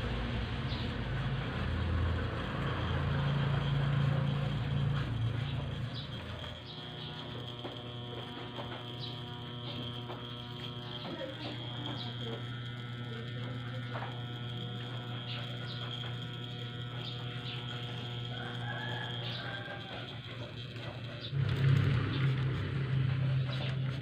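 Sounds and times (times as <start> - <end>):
electric hair clippers buzzing: 0.0 - 24.0.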